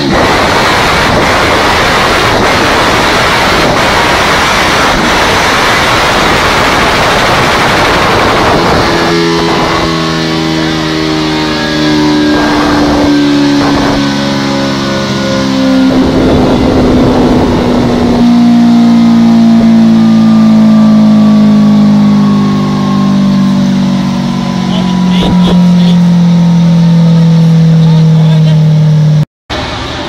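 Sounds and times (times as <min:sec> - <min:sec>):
motorcycle engine revving: 0:00.0 - 0:29.2.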